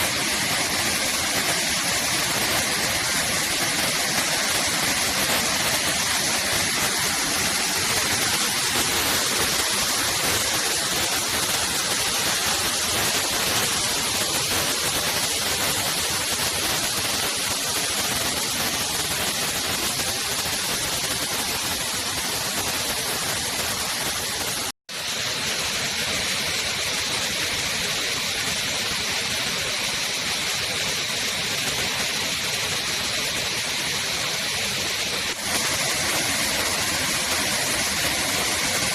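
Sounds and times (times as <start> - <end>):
waterfall rushing: 0.0 - 19.6, 20.2 - 38.9.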